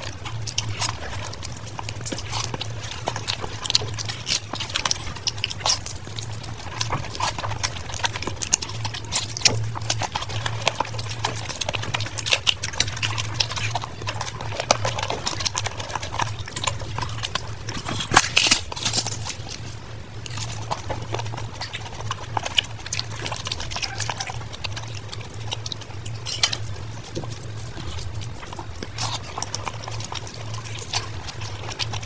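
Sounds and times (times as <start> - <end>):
fried bread tearing crackle: 0.0 - 32.0
wet chewing and lip-smacking: 0.0 - 32.0.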